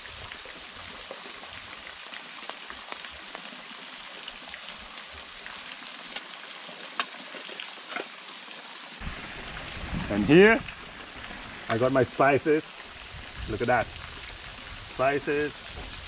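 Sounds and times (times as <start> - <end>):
stream and waterfall: 0.0 - 16.0.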